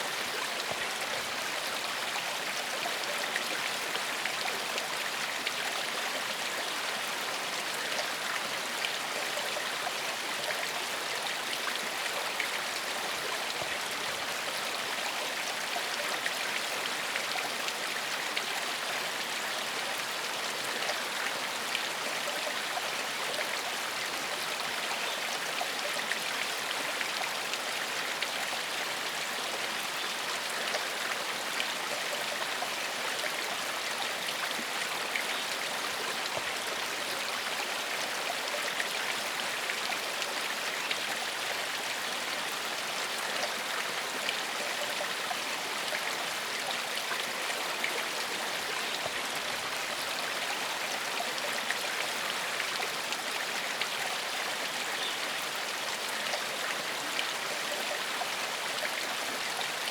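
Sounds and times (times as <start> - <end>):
stream flowing over stones: 0.0 - 59.9.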